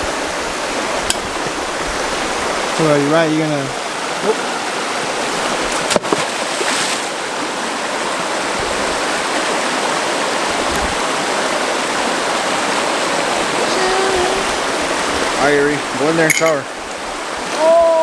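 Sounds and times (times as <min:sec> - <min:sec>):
rushing stream water: 0:00.0 - 0:18.0.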